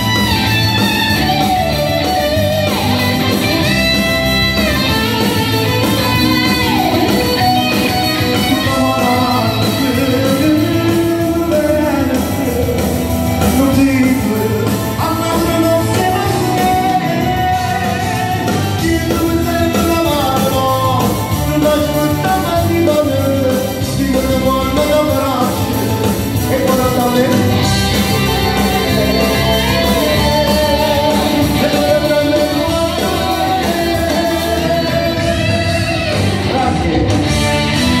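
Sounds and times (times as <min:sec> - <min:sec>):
backing music with guitar: 0:00.0 - 0:38.0
man singing into microphone: 0:05.1 - 0:37.4.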